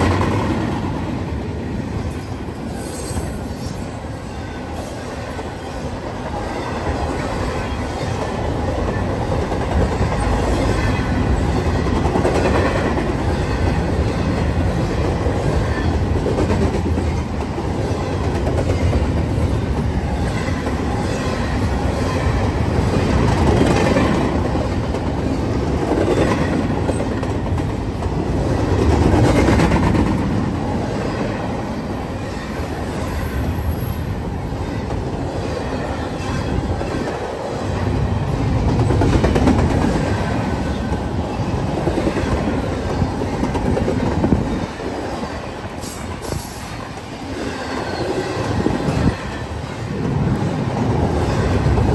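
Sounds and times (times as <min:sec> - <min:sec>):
freight train wheels on rails: 0:00.0 - 0:51.9.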